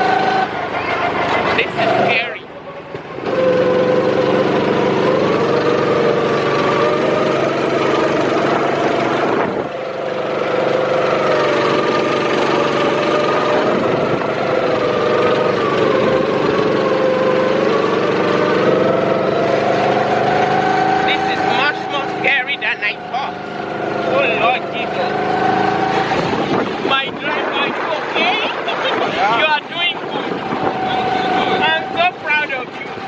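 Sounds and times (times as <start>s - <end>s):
go-kart engine running: 0.0s - 33.0s.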